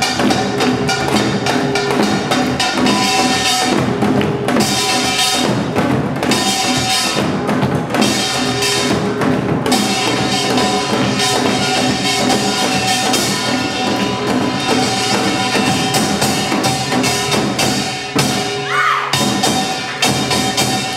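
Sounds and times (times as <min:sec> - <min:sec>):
hourglass drums: 0:00.0 - 0:20.9.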